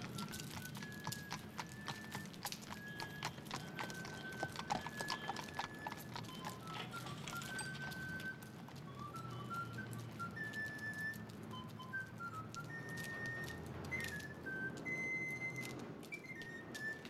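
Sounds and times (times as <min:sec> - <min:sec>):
horse hooves on cobblestones: 0:00.0 - 0:17.0
long whistled notes: 0:00.0 - 0:17.0.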